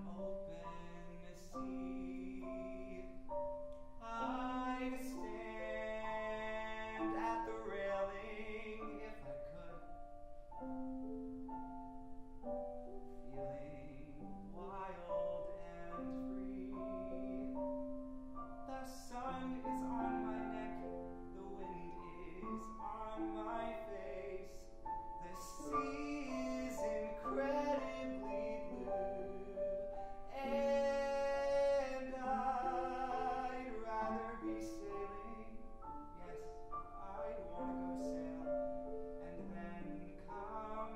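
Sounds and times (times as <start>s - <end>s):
man singing a ballad: 0.0s - 3.4s, 4.0s - 10.0s, 13.1s - 17.9s, 18.6s - 40.9s
grand piano accompaniment: 0.0s - 40.9s.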